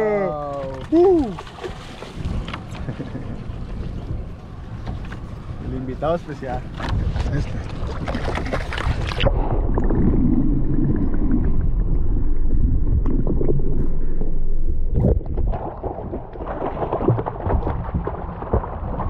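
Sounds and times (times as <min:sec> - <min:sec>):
muffled underwater rumbling and gurgling: 0:00.0 - 0:19.0.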